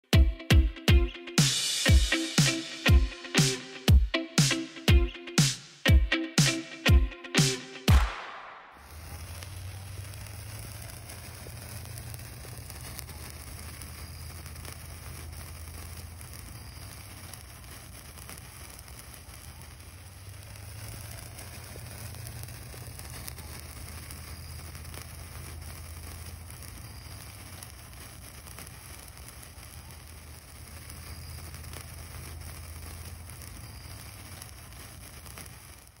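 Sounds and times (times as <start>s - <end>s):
sparkler fizzing and crackling: 0.0s - 36.0s.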